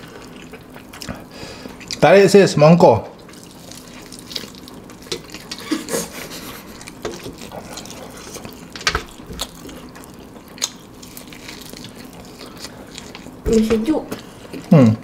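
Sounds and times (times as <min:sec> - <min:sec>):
wet chewing and lip-smacking: 0:00.0 - 0:02.0, 0:03.2 - 0:14.8.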